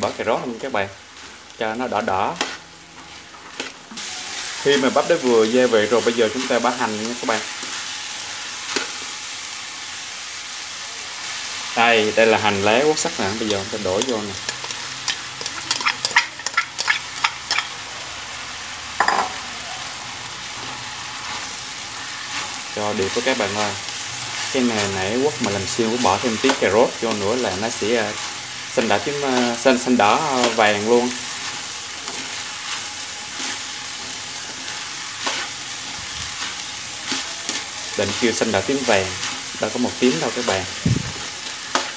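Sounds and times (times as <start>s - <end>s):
corn sizzling in wok: 0.0s - 41.9s
spatula scraping pan: 1.1s - 9.1s, 13.1s - 17.7s, 20.6s - 41.9s.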